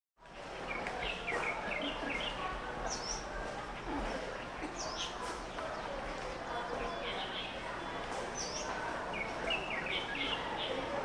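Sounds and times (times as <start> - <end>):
distant city noise: 0.3 - 11.0
small birds chirping: 0.5 - 11.0.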